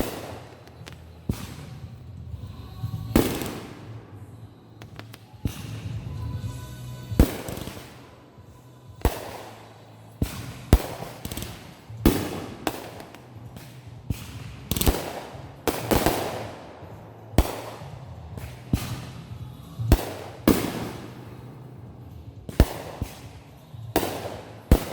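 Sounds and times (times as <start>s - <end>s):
fireworks bangs: 0.0s - 24.9s
fireworks crackling: 0.0s - 24.9s.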